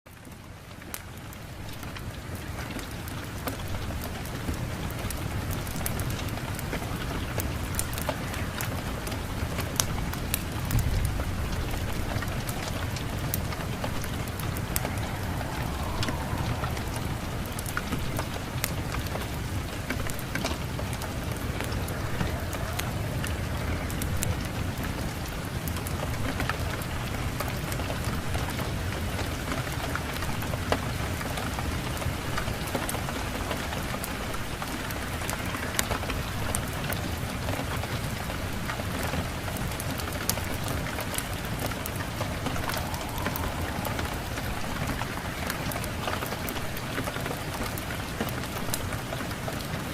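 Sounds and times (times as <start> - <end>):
raindrop ticks: 0.1 - 49.9
steady rain hiss: 0.1 - 49.9.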